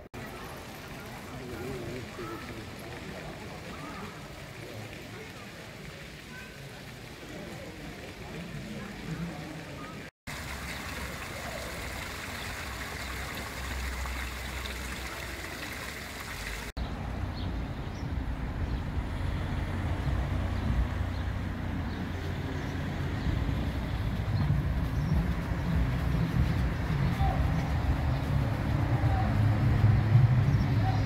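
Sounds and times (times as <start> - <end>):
fountain water splashing: 0.0 - 16.8, 19.8 - 31.0
cars driving on cobblestones: 0.0 - 31.0.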